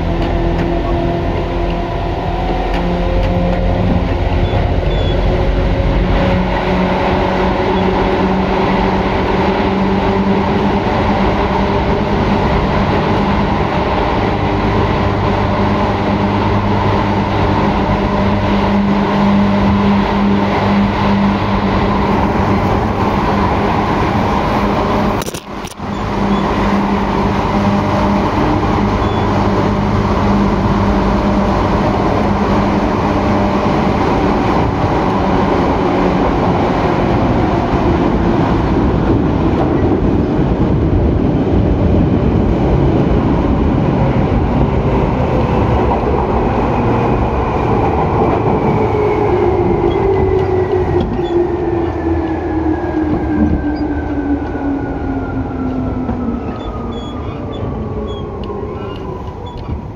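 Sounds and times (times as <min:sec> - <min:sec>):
train traction motors humming: 0:00.0 - 0:59.9
wheels rumbling on track: 0:00.0 - 0:59.9.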